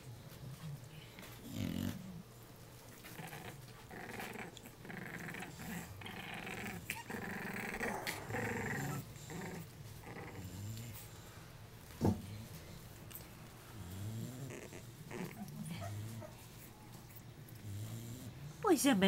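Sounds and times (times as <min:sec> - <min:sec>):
puppies growling and grunting: 0:00.0 - 0:11.5, 0:12.1 - 0:18.6.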